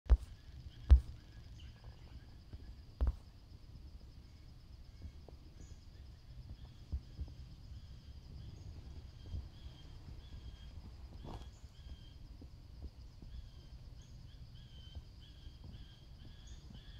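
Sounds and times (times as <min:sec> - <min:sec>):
faint bird chirps: 0:00.1 - 0:16.9
insect trill: 0:00.1 - 0:16.9.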